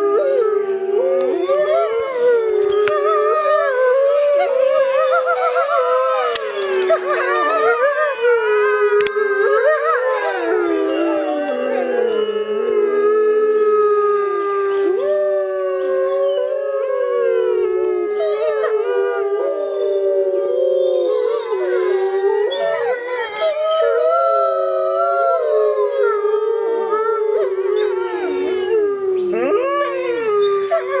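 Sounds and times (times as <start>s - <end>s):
canids howling together: 0.0s - 31.0s.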